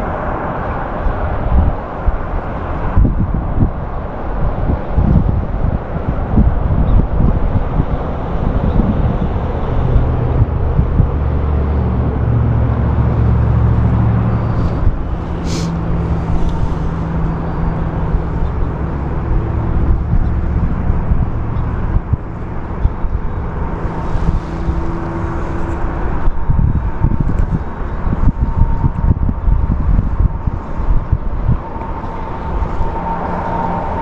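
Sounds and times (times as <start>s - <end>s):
passing vehicle engine hum: 0.0s - 34.0s
wind rumble: 0.0s - 34.0s.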